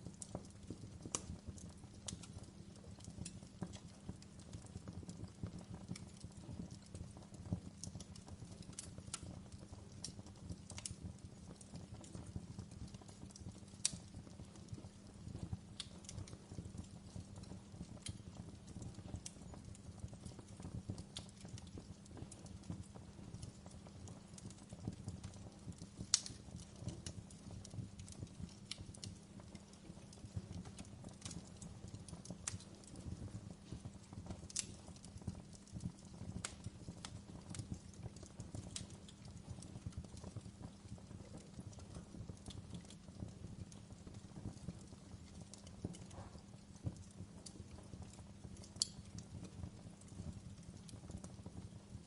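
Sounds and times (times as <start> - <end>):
fire crackling and popping: 0.0 - 52.0.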